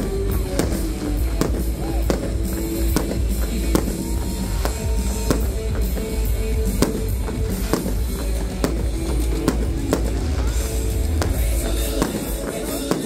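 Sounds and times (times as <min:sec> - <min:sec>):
fireworks bangs: 0:00.0 - 0:13.0
loud music with drums: 0:00.0 - 0:13.0.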